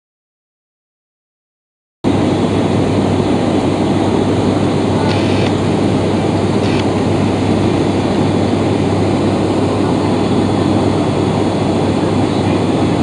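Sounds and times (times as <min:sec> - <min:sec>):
turboprop engines humming: 0:02.1 - 0:13.0.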